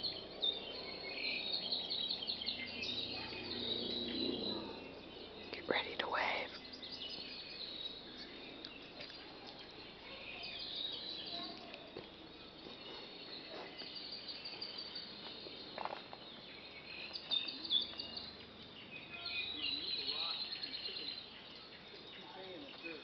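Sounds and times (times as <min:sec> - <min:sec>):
birds chirping: 0:00.0 - 0:23.0
faint steady background hush: 0:00.0 - 0:23.0.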